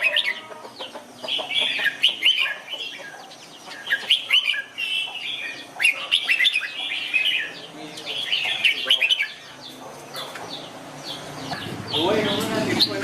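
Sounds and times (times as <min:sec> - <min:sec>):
bulbuls chirping: 0:00.0 - 0:13.0.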